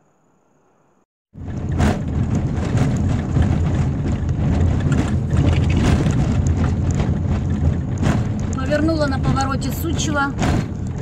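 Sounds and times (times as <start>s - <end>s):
engine and tyres rumbling: 0.3s - 11.0s
car knocking and rattling over bumps: 1.3s - 11.0s.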